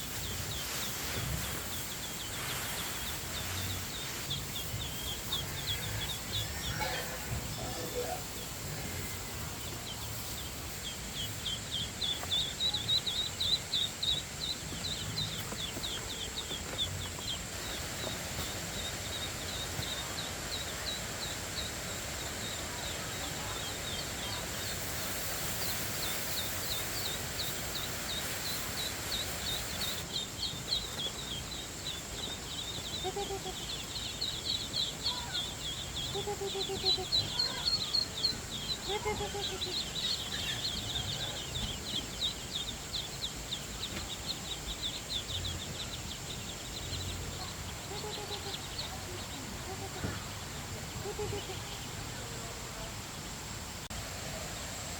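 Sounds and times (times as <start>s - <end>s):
ducklings peeping: 0.0s - 54.9s.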